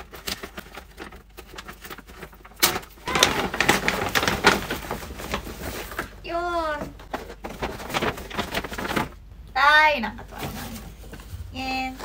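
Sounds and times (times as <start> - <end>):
paper gift bag rustling: 0.0 - 12.0.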